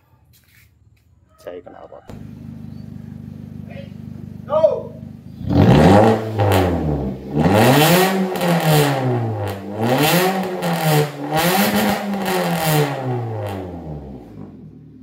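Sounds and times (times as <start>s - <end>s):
car engine revving: 2.1s - 15.0s.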